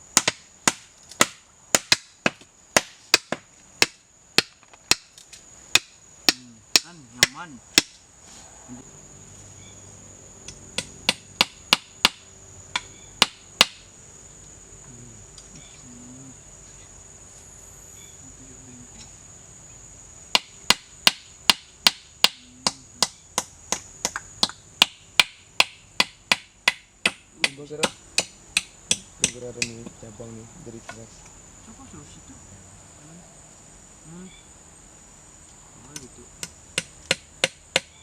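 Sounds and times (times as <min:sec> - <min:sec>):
high insect drone: 0:00.0 - 0:38.0.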